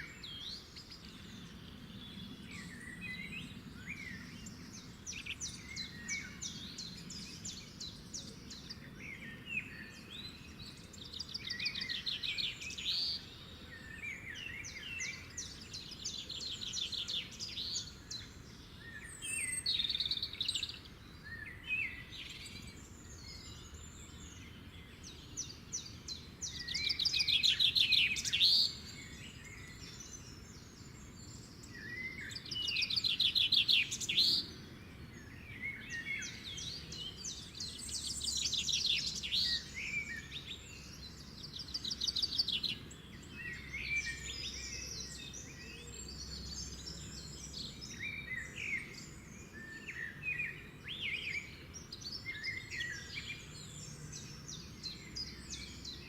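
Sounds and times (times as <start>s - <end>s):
faint outdoor background: 0.0s - 56.0s
songbirds singing trills: 0.0s - 56.0s.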